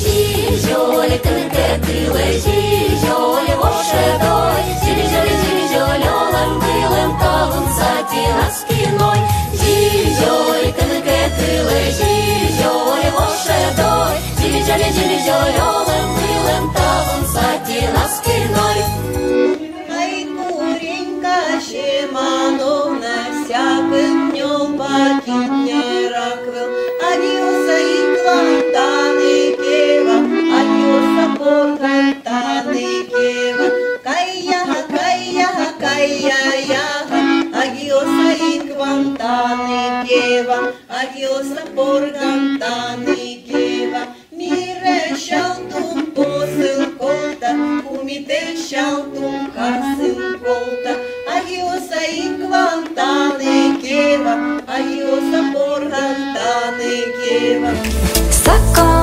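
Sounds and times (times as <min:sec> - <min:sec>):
accordion folk music: 0:00.0 - 0:59.0.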